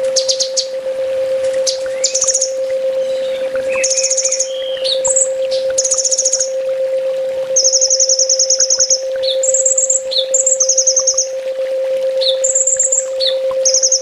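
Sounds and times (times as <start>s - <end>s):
sunbird singing high trills: 0.0s - 0.8s, 1.6s - 6.6s, 7.6s - 11.4s, 12.2s - 14.0s
steady hum tone: 0.0s - 14.0s.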